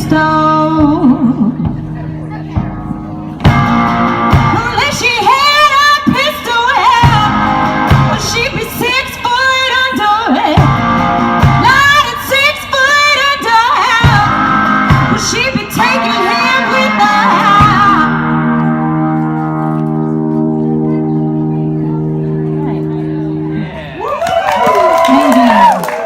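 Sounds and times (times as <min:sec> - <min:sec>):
guitar: 0:00.0 - 0:25.8.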